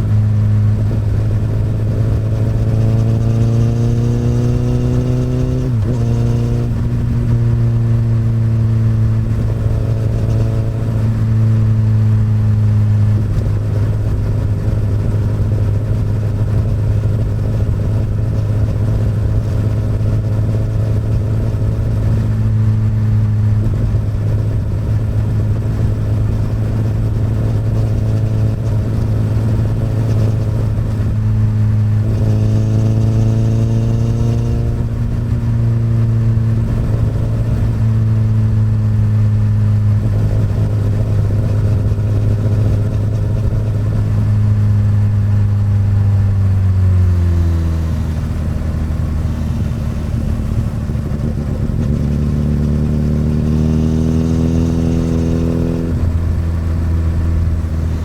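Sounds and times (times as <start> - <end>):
motorcycle engine exhaust while riding: 0.0 - 58.0.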